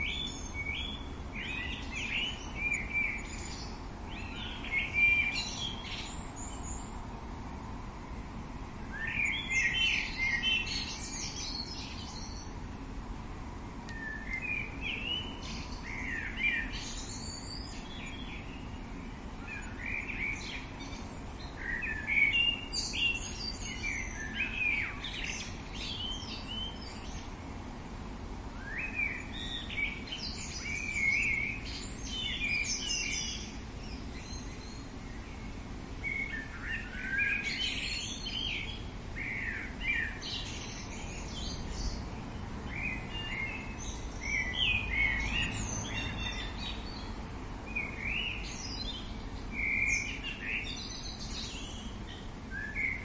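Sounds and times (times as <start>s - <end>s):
low background hiss: 0.0s - 53.0s
songbirds chirping and warbling: 0.0s - 53.0s.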